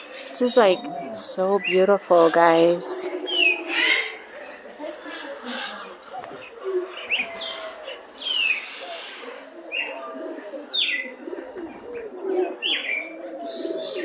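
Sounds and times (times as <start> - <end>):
birds chirping: 0.0 - 14.0
low wavering bird notes: 0.0 - 14.0.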